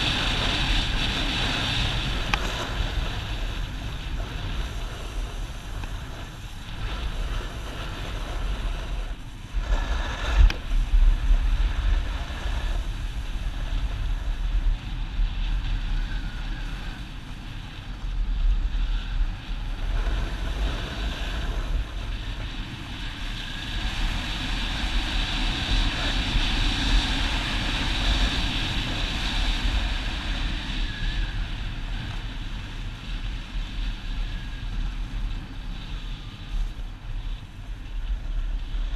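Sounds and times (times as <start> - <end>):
snowboard scraping over snow: 0.0 - 38.9
wind on microphone: 0.0 - 38.9.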